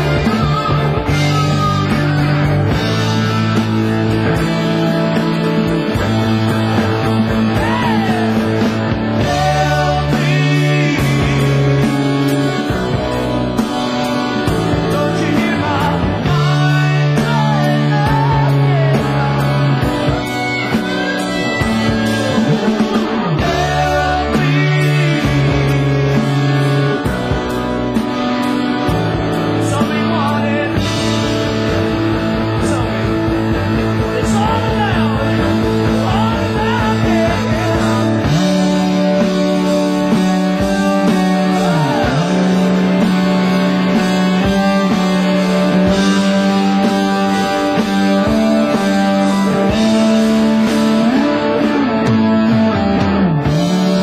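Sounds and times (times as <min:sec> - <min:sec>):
rock band instrumental: 0:00.0 - 0:54.0
sliding bass line: 0:00.0 - 0:54.0.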